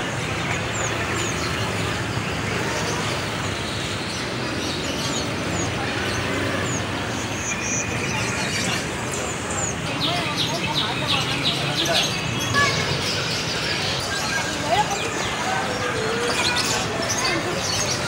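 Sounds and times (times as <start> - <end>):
traffic and motorbikes: 0.0 - 18.0.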